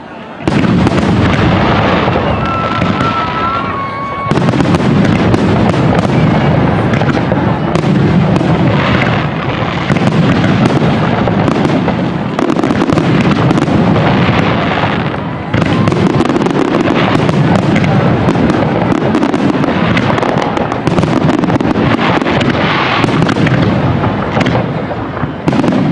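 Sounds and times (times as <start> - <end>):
fireworks booming and cracking: 0.0 - 25.9.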